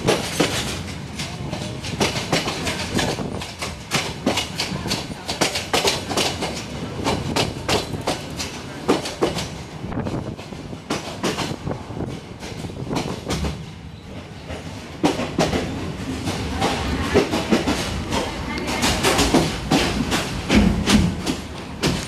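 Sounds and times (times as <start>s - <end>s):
train wheels clacking: 0.0s - 22.0s.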